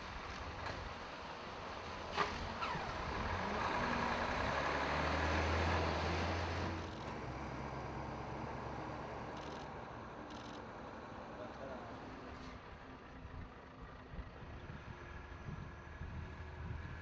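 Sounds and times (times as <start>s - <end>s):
truck diesel engine running hard: 0.0s - 17.0s.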